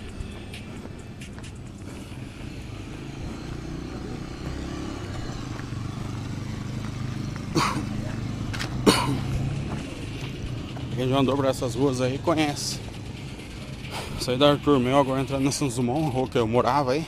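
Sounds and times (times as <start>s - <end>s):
motorcycle engine running: 0.0s - 16.5s.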